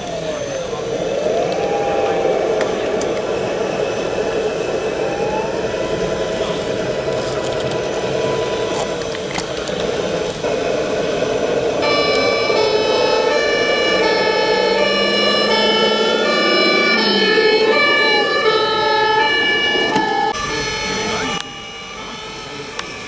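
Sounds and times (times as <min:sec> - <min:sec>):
model tractor motors whirring: 0:00.0 - 0:23.0
thin rising whine: 0:00.0 - 0:23.0.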